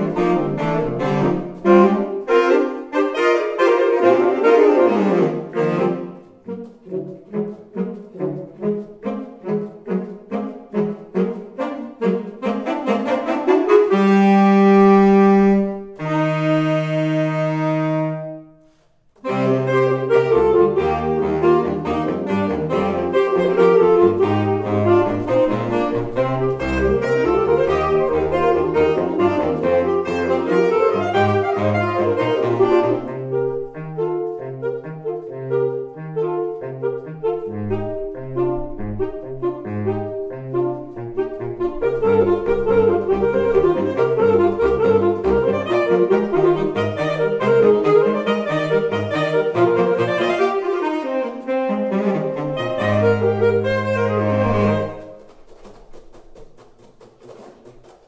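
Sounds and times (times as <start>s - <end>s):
saxophone trio playing: 0.0s - 56.1s.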